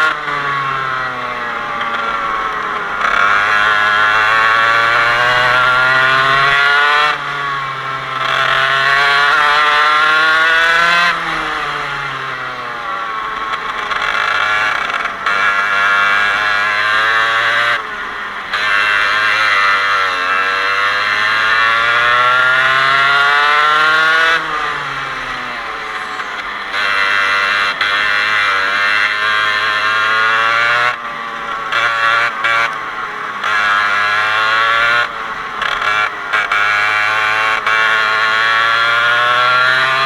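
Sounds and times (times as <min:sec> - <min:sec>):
kart engine revving: 0:00.0 - 0:40.0.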